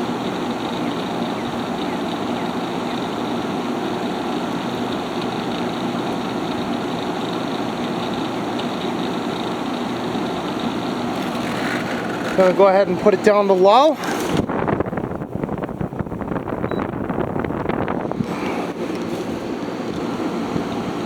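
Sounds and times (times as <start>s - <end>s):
air conditioner running: 0.0s - 21.0s.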